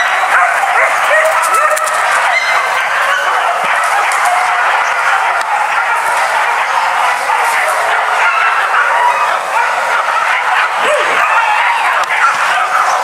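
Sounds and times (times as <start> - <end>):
dogs yelping and barking: 0.0 - 13.0.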